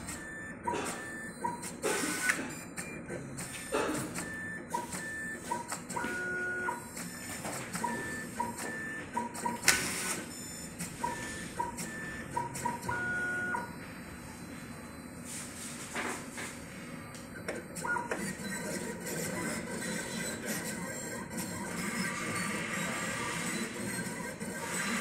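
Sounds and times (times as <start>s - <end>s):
cutting plotter motors whining: 0.0s - 15.1s, 16.8s - 25.0s.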